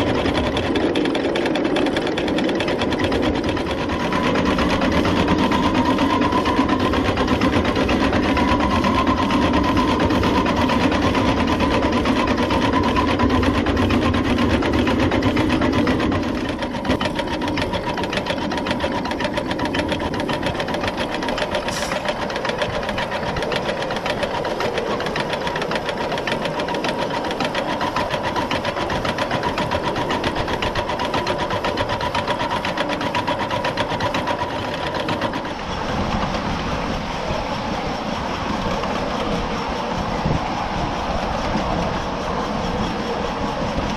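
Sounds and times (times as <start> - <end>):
clatter of rods and wheels: 0.0 - 43.9
steam locomotive exhaust beats: 0.0 - 43.9.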